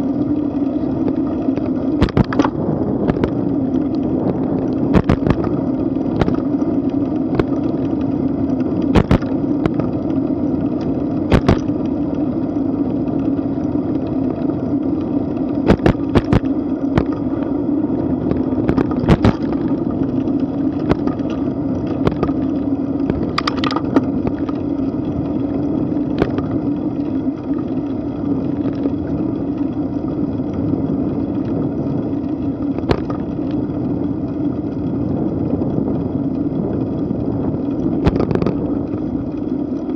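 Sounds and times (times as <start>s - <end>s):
bicycle tyres rolling on pavement: 0.0s - 39.9s
bike rattling over bumps: 0.0s - 39.9s
wind noise on microphone: 0.0s - 39.9s.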